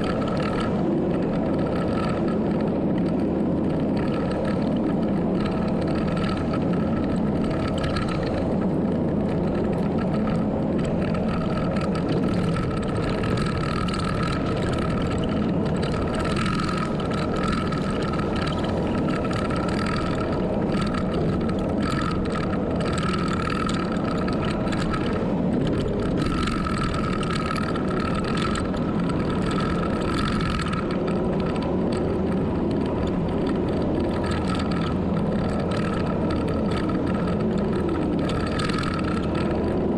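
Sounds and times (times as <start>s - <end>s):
heavy machine engine running: 0.0s - 39.9s
machine whine: 0.0s - 39.9s.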